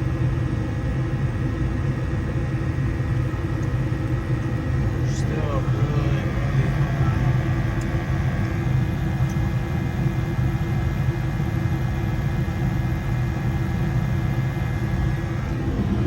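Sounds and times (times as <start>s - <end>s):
gas furnace running: 0.0s - 16.0s.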